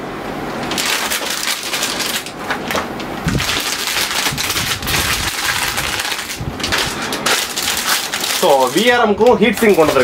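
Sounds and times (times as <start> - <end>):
packaging crinkling: 0.6 - 10.0.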